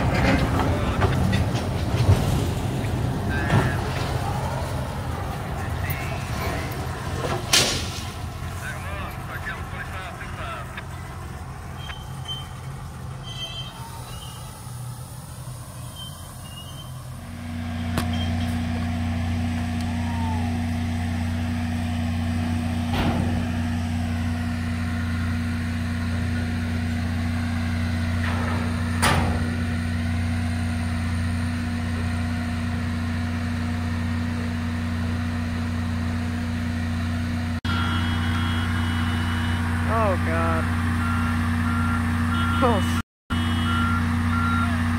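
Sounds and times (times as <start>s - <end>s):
diesel engine humming: 0.0s - 44.9s.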